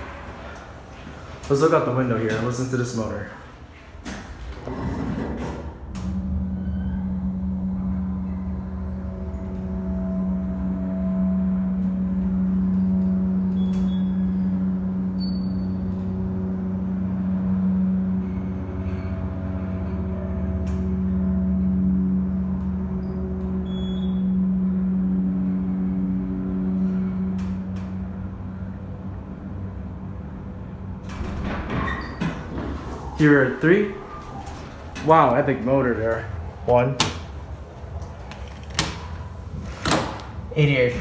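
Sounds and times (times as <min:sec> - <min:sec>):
elevator pump motor hum: 0:00.0 - 0:41.0.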